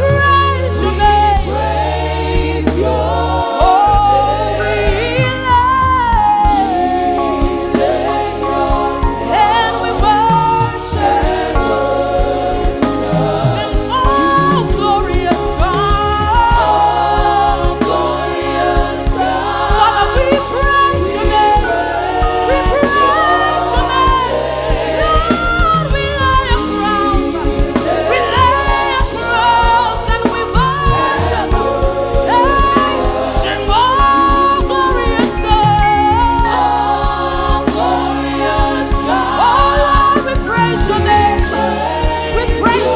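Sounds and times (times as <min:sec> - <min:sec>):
band accompaniment: 0:00.0 - 0:42.9
voices singing gospel: 0:00.0 - 0:42.9.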